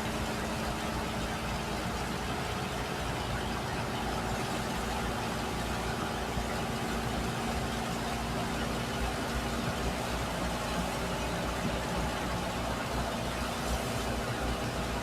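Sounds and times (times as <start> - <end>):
machinery low hum: 0.0 - 15.0.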